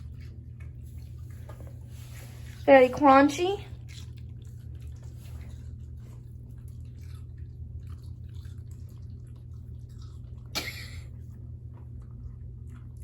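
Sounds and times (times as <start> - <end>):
dogs chewing and crunching: 0.0 - 13.0
low steady hum: 0.0 - 13.0.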